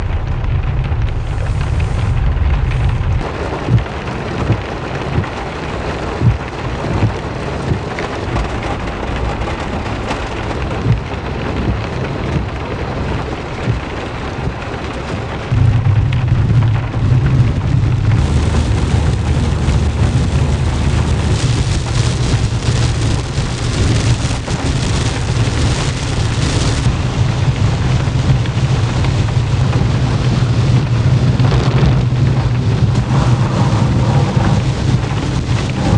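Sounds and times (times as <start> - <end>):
heavy rain falling: 0.0 - 35.9
low steady rumble: 0.0 - 35.9.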